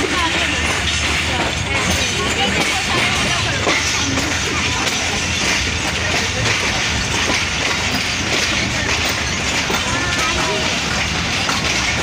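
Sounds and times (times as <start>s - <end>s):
railcar rumbling on track: 0.0s - 12.0s.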